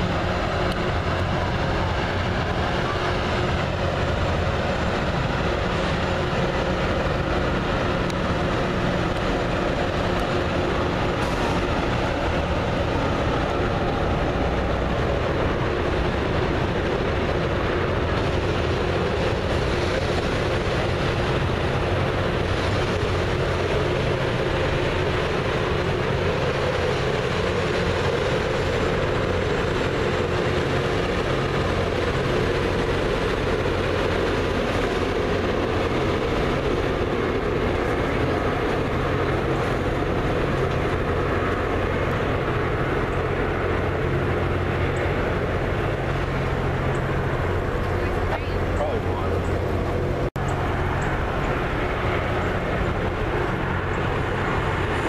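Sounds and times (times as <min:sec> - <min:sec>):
train passing over bridge: 0:00.0 - 0:55.0.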